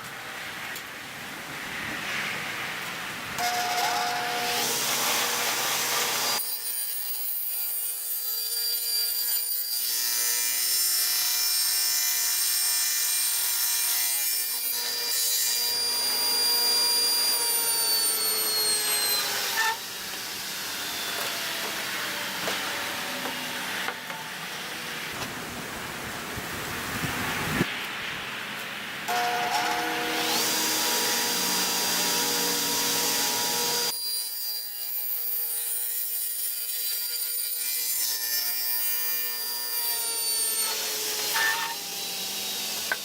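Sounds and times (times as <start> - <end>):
power saw cutting wood: 3.4 - 25.2, 29.1 - 43.0.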